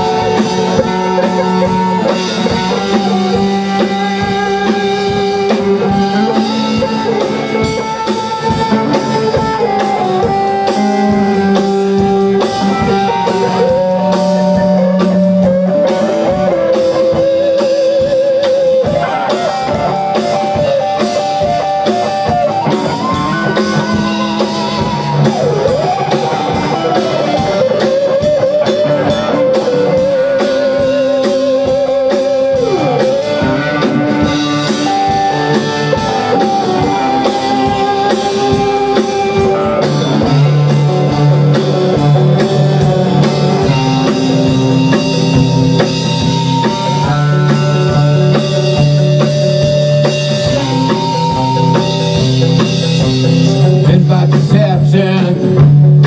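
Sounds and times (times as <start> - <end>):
electric guitar lead with bends: 0.0 - 56.0
rock band playing: 0.0 - 56.0.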